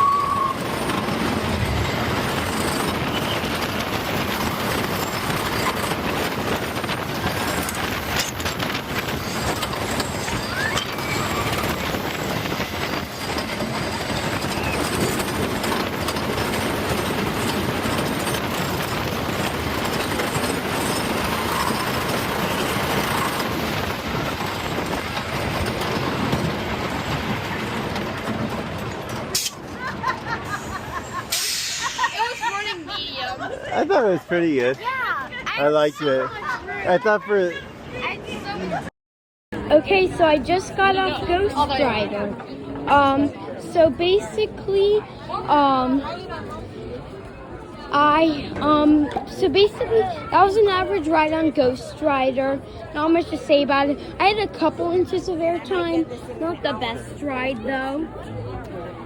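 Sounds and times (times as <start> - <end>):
roller coaster rattling on track: 0.0 - 38.9, 39.6 - 59.0.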